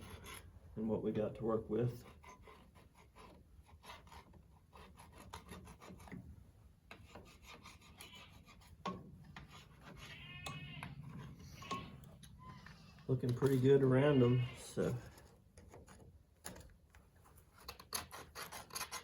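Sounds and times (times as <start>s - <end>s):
chisel scraping metal: 0.0s - 1.2s, 1.9s - 19.0s.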